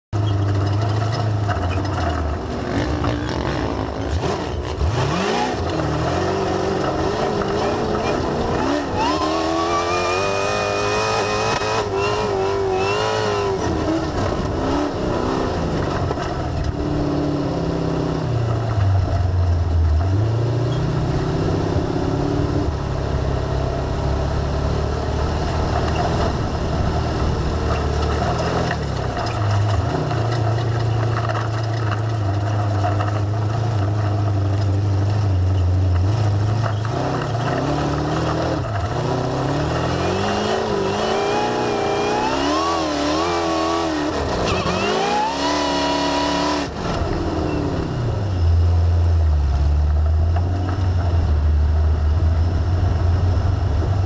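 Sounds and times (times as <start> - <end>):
buggy engine revving: 0.1 - 54.0.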